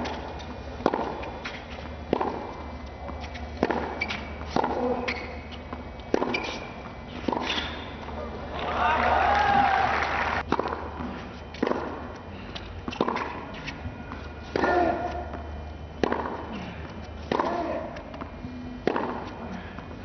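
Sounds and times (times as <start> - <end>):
racquets hitting tennis ball: 0.0 - 20.0.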